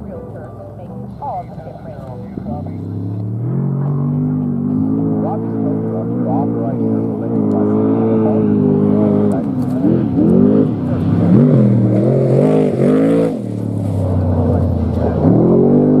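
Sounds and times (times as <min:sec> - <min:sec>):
race truck engine passing at speed: 0:01.2 - 0:16.0.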